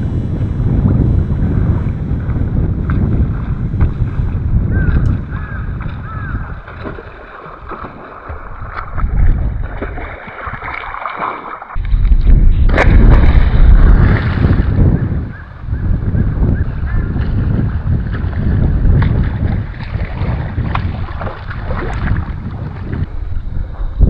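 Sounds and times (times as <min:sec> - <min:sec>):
wind buffeting microphone: 0:00.0 - 0:11.0, 0:11.8 - 0:24.0.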